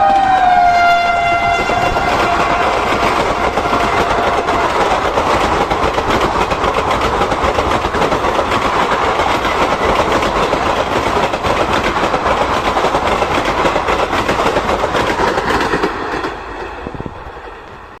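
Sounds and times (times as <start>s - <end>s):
train passing at speed: 0.0s - 18.0s
wheels clacking over rail joints: 1.4s - 16.8s.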